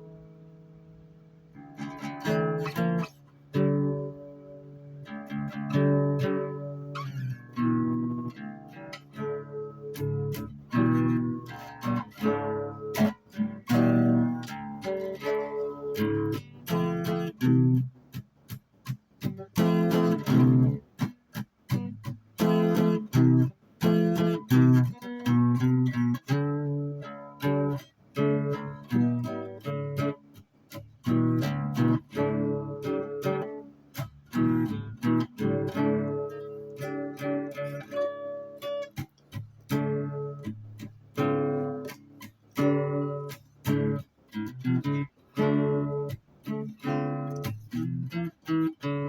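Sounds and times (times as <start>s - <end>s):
guitar strumming chords: 0.0s - 49.0s.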